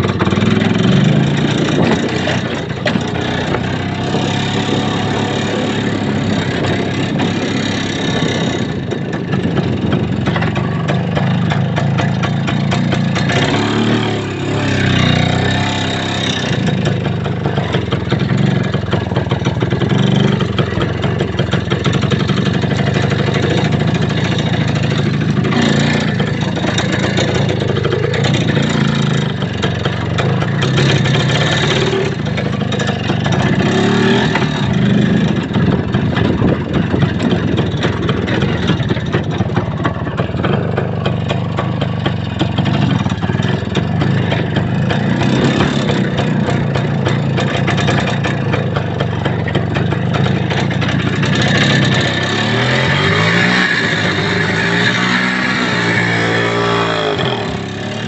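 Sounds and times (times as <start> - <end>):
vehicle engine revving: 0.0 - 58.0.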